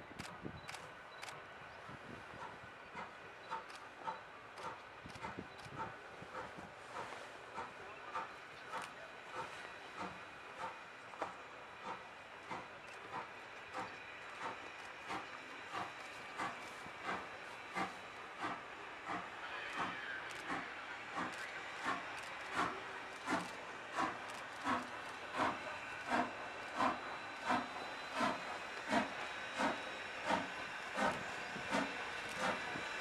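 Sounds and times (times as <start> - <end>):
steam locomotive chuffing: 0.7 - 33.0
steady steam hiss: 1.7 - 33.0.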